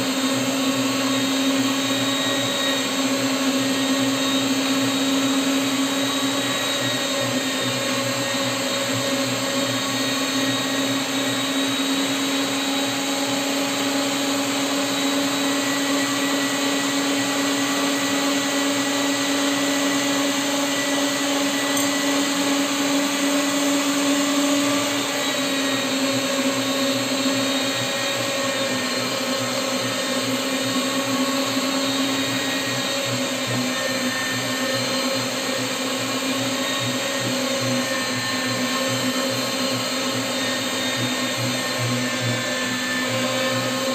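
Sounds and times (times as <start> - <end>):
meat grinder motor running: 0.0 - 43.9.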